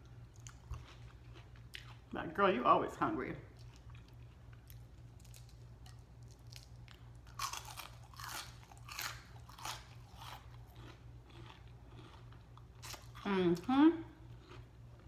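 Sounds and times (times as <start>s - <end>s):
crunchy chewing of onion ring: 0.0s - 2.2s, 3.5s - 15.0s.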